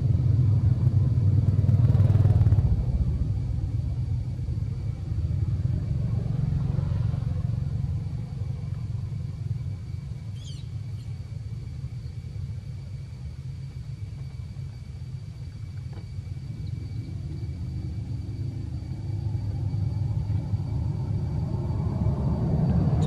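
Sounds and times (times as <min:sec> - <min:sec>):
fluttering low rumble: 0:00.0 - 0:23.0.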